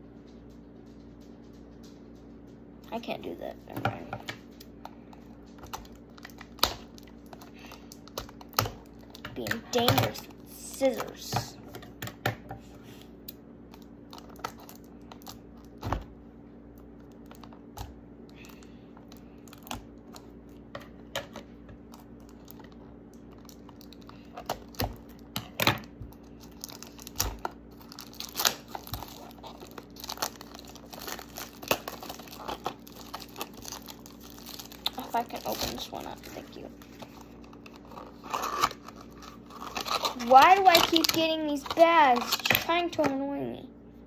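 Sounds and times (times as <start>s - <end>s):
packaging crinkling and tearing: 4.4s - 11.3s, 13.7s - 16.1s, 16.8s - 43.2s.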